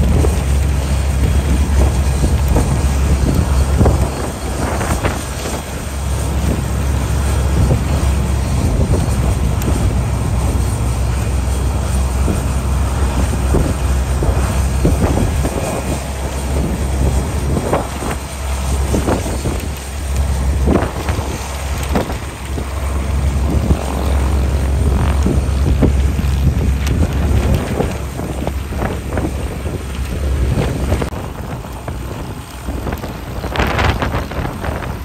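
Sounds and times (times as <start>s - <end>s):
radial engines rumbling: 0.0s - 35.0s
wind gusting on microphone: 0.0s - 35.0s.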